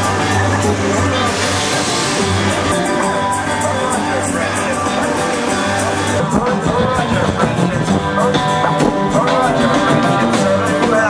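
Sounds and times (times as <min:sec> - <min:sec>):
rock music with vocals: 0:00.0 - 0:11.0.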